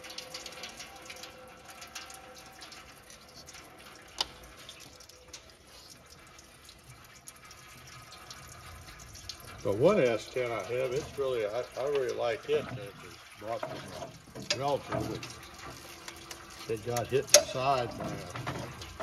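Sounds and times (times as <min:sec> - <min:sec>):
coolant trickling and dripping: 0:00.0 - 0:19.0.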